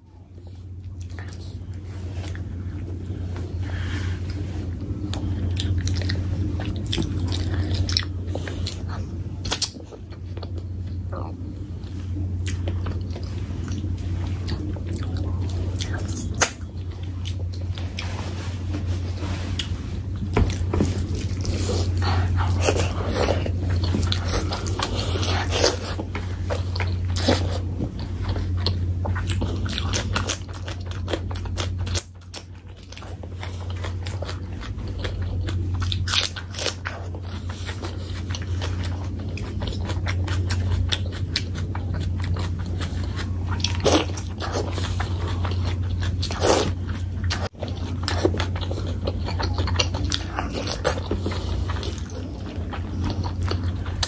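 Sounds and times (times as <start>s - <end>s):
steady low hum: 0.0s - 54.0s
wet chewing with crunchy bites: 0.0s - 54.0s.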